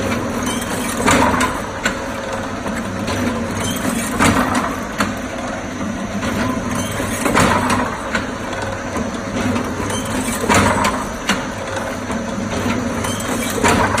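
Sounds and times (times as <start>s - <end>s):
machine motor hum: 0.0s - 14.0s.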